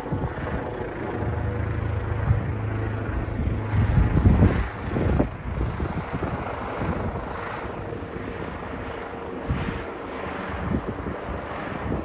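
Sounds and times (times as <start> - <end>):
helicopter rotor drone: 0.0 - 12.0
wind rumbling on microphone: 0.0 - 12.0.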